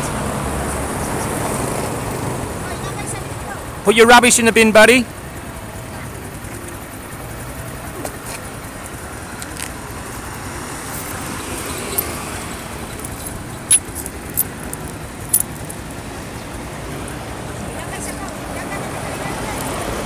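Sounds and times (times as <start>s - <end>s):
street traffic hiss: 0.0s - 20.0s.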